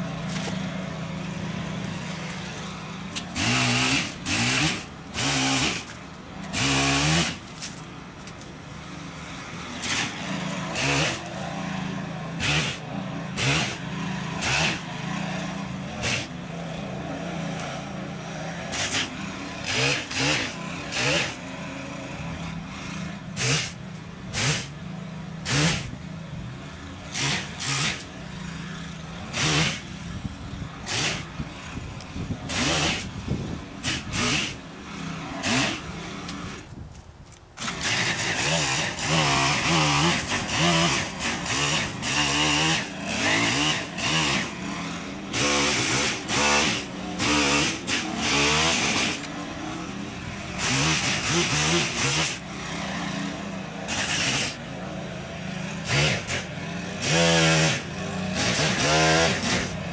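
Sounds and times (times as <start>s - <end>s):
chainsaw revving and cutting: 0.0s - 7.8s, 8.7s - 36.7s, 37.6s - 59.9s.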